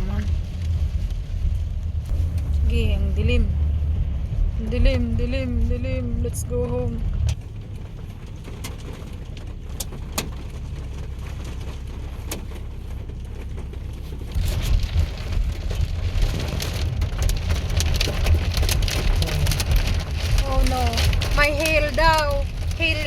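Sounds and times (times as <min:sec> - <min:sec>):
hail and rain pelting car roof: 0:00.0 - 0:05.8, 0:07.0 - 0:23.0
car cabin road rumble: 0:00.0 - 0:23.0.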